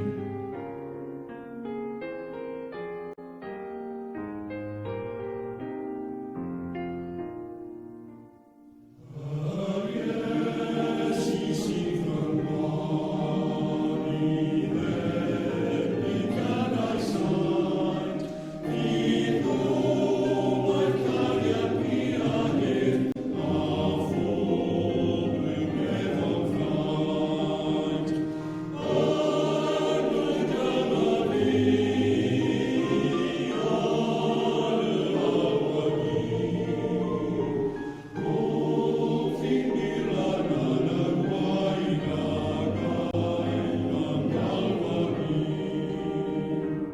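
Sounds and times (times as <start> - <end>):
male voice choir singing: 9.0 - 46.9.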